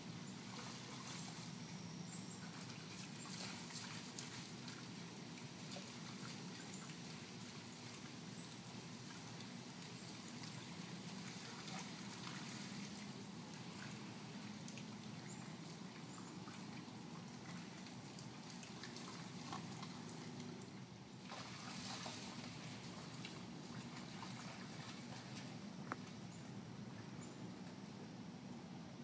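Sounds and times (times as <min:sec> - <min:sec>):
creek water splashing and trickling: 0:00.0 - 0:28.2
low background hum: 0:00.0 - 0:29.0.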